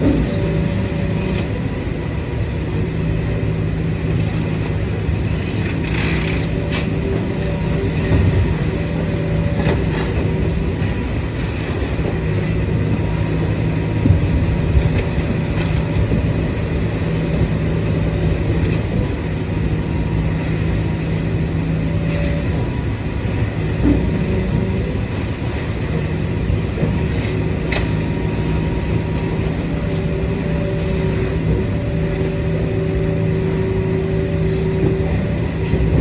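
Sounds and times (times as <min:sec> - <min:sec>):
hydraulic machine drone: 0:00.0 - 0:36.0.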